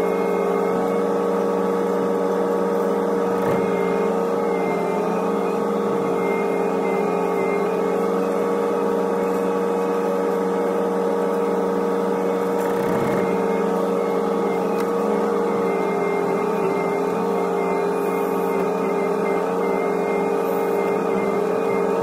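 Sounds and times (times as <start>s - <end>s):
excavator engine and hydraulics drone: 0.0s - 22.0s.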